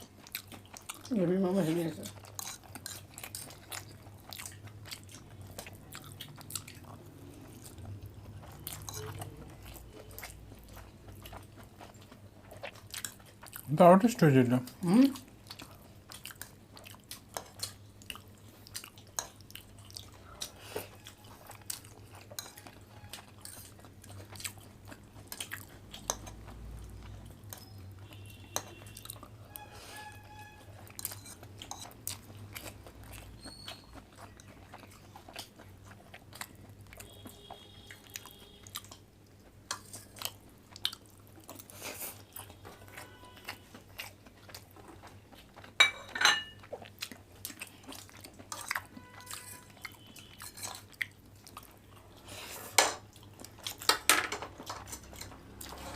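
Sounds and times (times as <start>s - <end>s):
chewing and mouth smacks: 0.0s - 1.1s, 2.0s - 13.7s, 14.7s - 29.7s, 30.8s - 45.8s, 46.6s - 52.2s.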